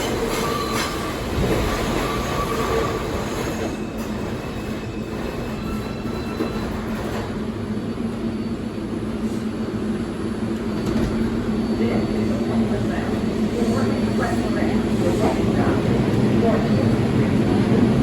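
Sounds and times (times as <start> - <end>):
subway train on rails: 0.0 - 18.0.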